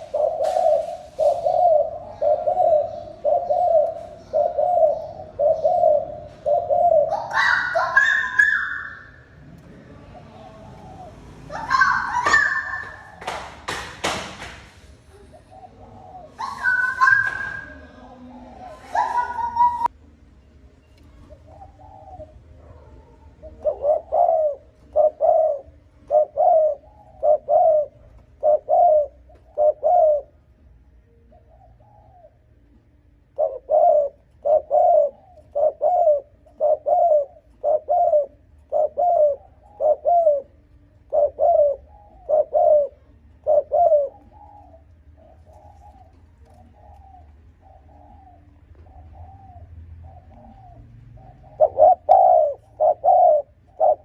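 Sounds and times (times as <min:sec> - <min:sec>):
dove cooing: 0:00.0 - 0:13.4, 0:15.0 - 0:20.0, 0:21.1 - 0:54.0.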